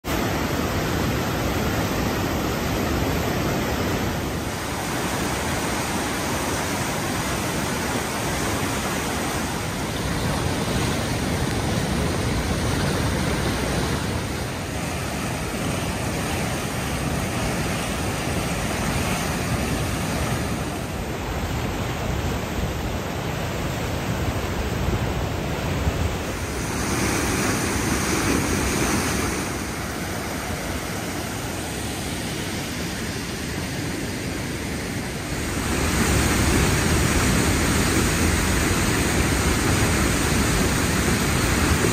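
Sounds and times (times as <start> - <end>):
fast water rushing: 0.0 - 41.9.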